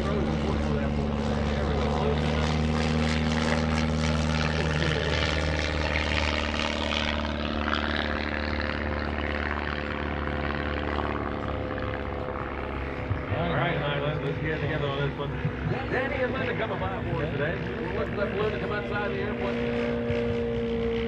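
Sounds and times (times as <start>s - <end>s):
propeller airplane engine: 0.0s - 21.0s.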